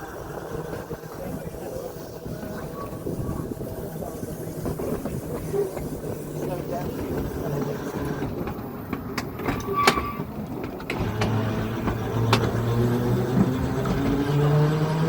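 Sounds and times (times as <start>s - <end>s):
tram wheels clicking on rails: 0.0s - 14.7s
tram motor whine: 0.0s - 15.0s.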